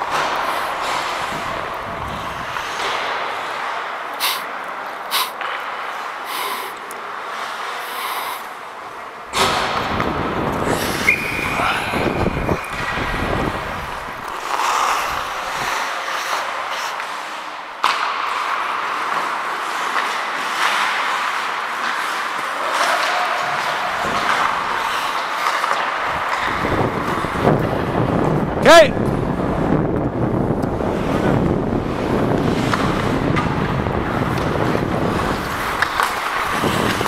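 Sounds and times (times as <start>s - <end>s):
hockey sticks and puck clacking: 0.0s - 28.4s, 30.4s - 37.0s
skate blades scraping ice: 0.0s - 28.4s, 30.8s - 37.0s.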